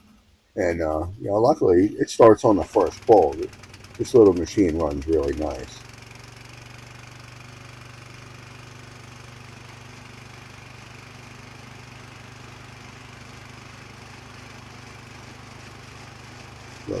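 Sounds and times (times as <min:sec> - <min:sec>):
small mower engine running: 0:02.4 - 0:17.0.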